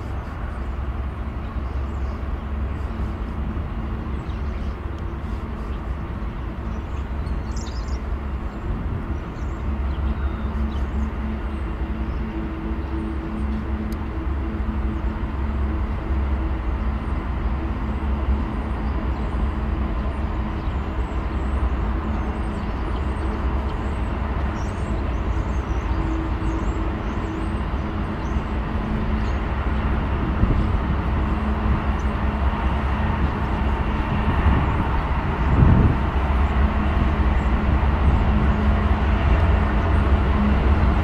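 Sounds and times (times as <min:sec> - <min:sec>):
diesel locomotive engine rumble: 0:00.0 - 0:41.0.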